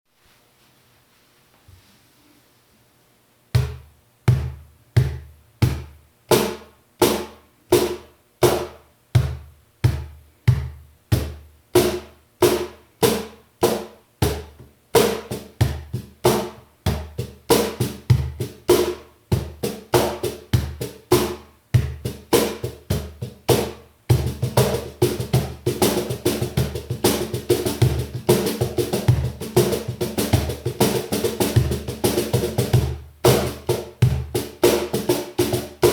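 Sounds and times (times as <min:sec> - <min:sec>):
cajon played by hand: 0:03.6 - 0:35.9.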